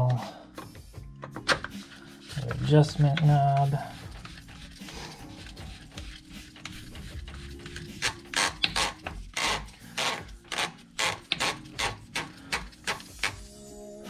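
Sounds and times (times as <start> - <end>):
plastic rubbing on plastic: 1.7 - 13.4.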